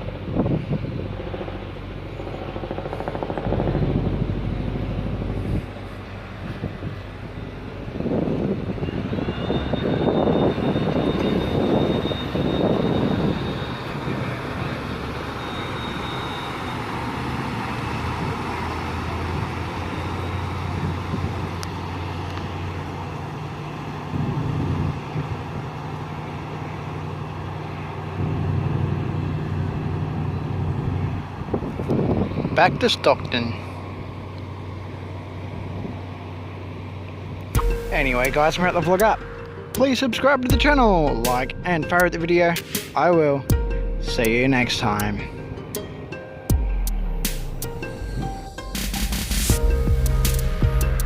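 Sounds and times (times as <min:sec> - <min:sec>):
ferry engines humming: 0:00.0 - 0:51.0.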